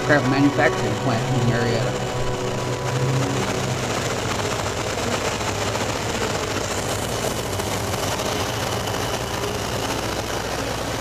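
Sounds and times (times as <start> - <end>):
biplane engine and propeller: 0.0 - 11.0.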